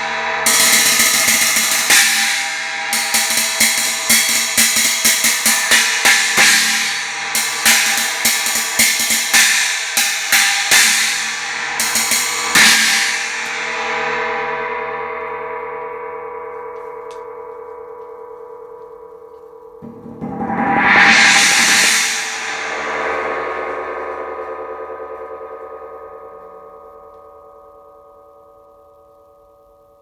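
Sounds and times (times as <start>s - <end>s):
china cymbal struck with stick: 0.0s - 18.0s, 18.6s - 27.2s.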